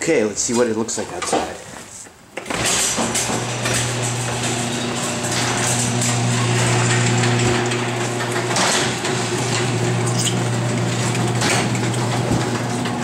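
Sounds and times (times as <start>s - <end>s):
door scraping: 2.4s - 13.0s
garage door opener humming: 2.4s - 13.0s.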